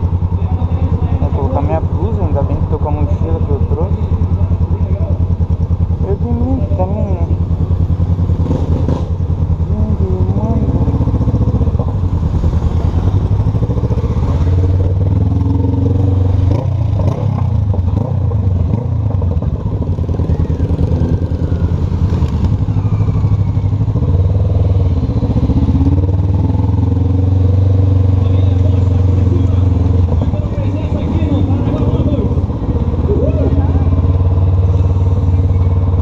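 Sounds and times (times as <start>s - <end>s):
motorcycle engine running at low revs: 0.0s - 36.0s.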